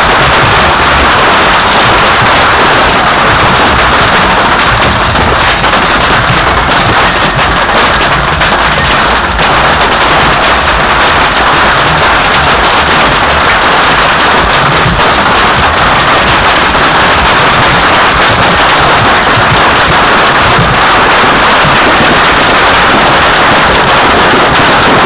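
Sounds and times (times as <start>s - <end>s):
bottle rockets crackling and banging: 0.0s - 25.0s.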